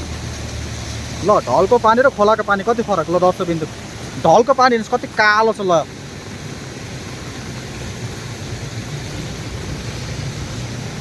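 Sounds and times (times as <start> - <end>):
flooded river rushing: 0.0 - 11.0.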